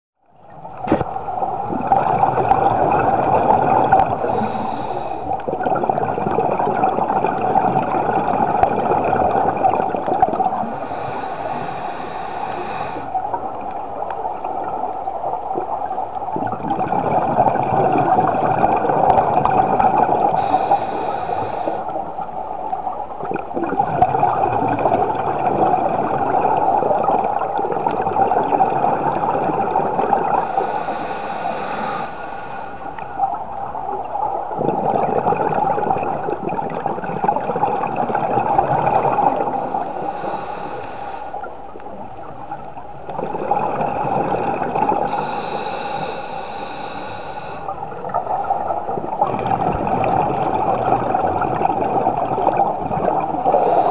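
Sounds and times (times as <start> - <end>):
underwater bubbles gurgling: 0.2 - 53.9.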